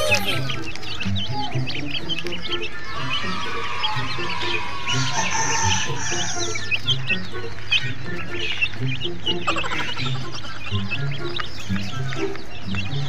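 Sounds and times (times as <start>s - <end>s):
background music with steady beat: 0.0s - 13.0s
chicks peeping: 0.0s - 13.0s.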